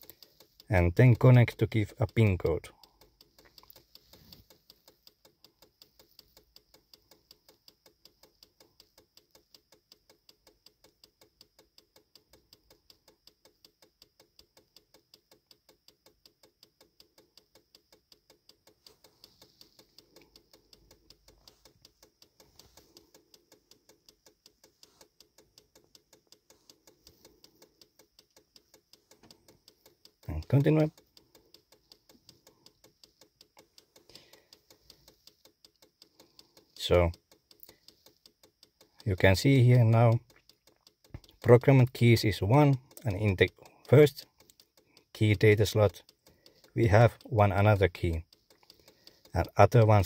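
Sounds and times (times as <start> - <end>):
faint regular ticking: 0.0 - 50.0.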